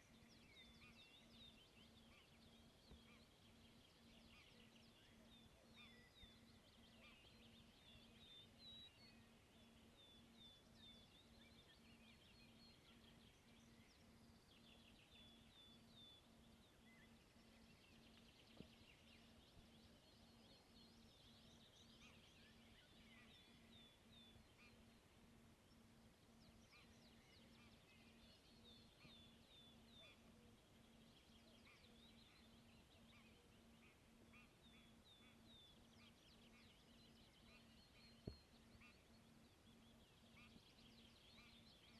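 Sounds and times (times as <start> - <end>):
faint pulsing low hum: 0.0 - 41.9
small birds chirping: 0.0 - 41.9.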